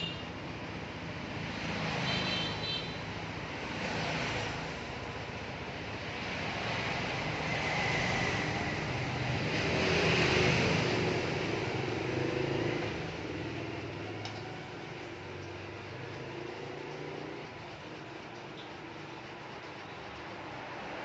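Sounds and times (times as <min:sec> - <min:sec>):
vehicle passing by: 0:03.4 - 0:21.0.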